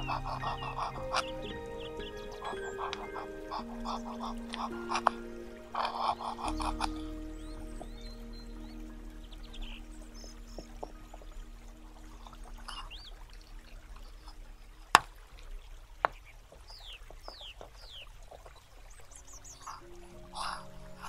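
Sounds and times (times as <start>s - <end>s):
birds chirping: 0.0s - 21.0s
faint water trickling: 0.0s - 21.0s.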